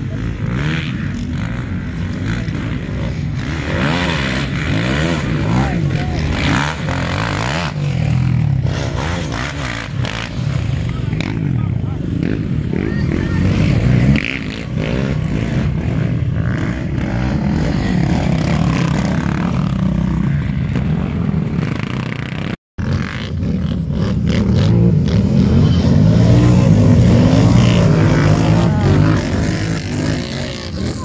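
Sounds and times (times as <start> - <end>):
atv engines revving: 0.0 - 31.0.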